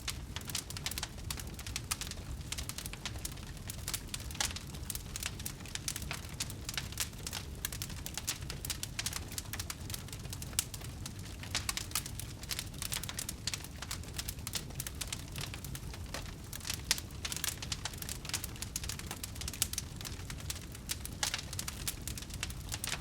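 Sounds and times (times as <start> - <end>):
fire popping and snapping: 0.0 - 23.0
low fire rumble: 0.0 - 23.0.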